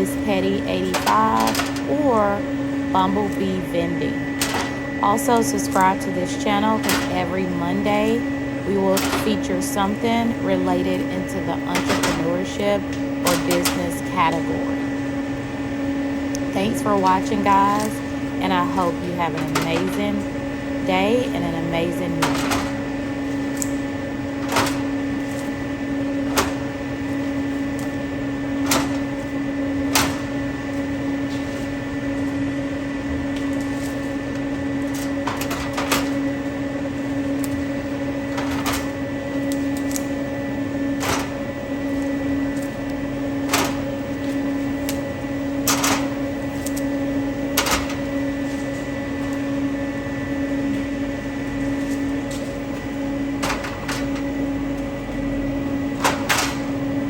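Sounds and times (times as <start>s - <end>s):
vending machine electrical hum: 0.0s - 57.0s.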